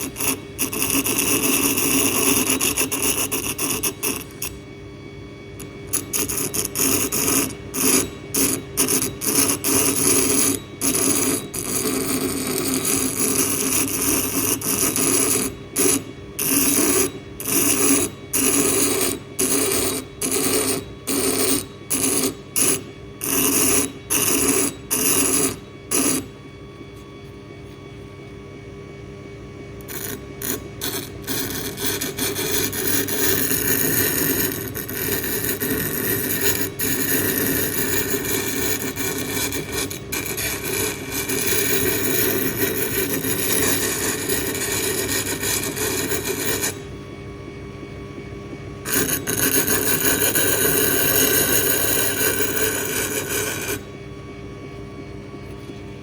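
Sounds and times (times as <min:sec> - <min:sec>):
knife scraping on abrasive: 0:00.0 - 0:04.6, 0:05.6 - 0:26.3, 0:29.8 - 0:46.9, 0:48.9 - 0:53.9
steady low hum: 0:00.0 - 0:56.0.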